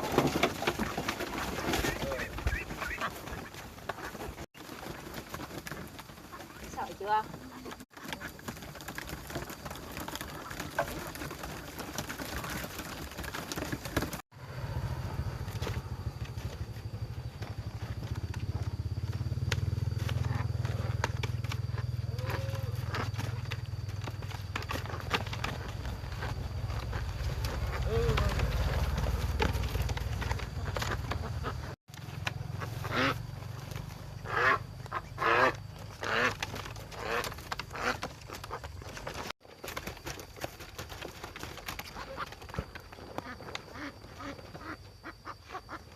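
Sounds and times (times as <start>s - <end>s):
ducks calling softly: 0.0s - 14.1s, 15.4s - 39.3s, 41.4s - 45.9s
rustling and scuffling: 0.0s - 45.9s.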